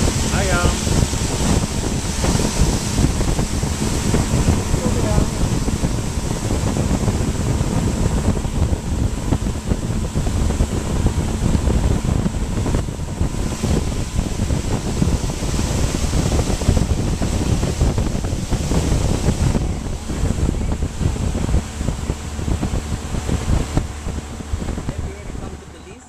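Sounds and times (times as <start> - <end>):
faint motor hum: 0.0 - 26.0
wind buffeting microphone: 0.0 - 26.0.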